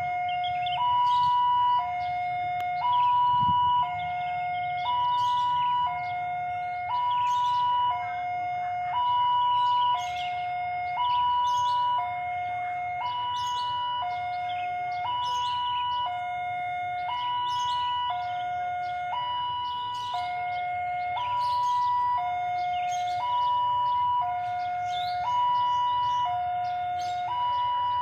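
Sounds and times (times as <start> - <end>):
level crossing warning alarm: 0.0 - 28.0.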